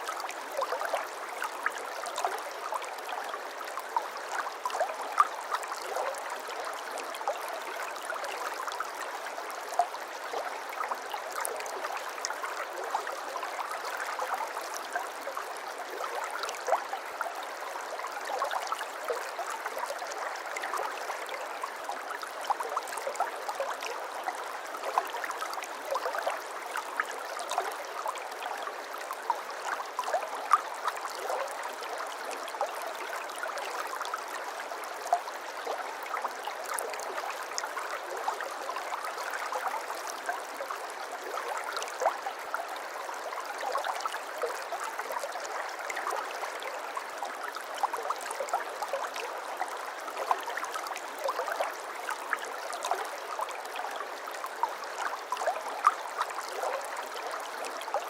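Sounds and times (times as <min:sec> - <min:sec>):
shallow stream babbling: 0:00.0 - 0:58.0.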